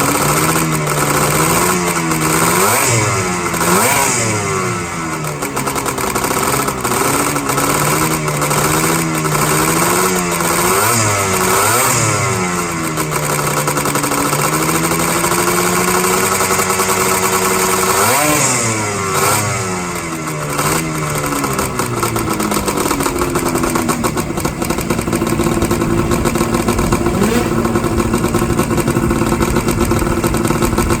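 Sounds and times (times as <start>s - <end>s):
snowmobile two-stroke engine: 0.0s - 31.0s.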